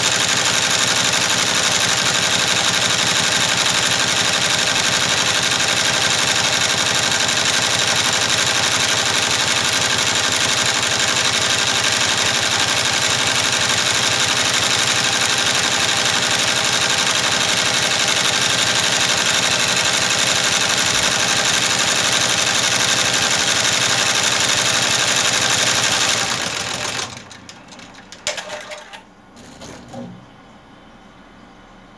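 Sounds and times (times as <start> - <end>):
embroidery machine stitching: 0.0 - 30.2.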